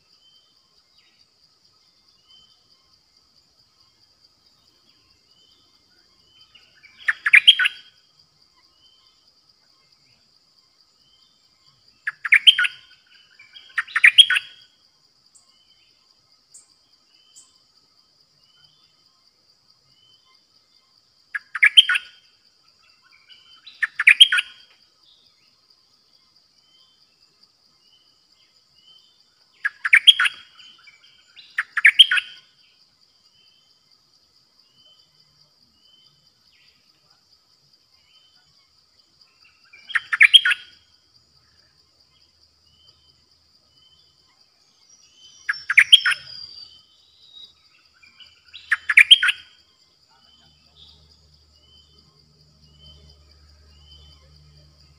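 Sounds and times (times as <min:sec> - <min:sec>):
bird singing song phrases: 0:00.0 - 0:33.9, 0:34.6 - 0:54.9
high insect trill: 0:00.0 - 0:54.9.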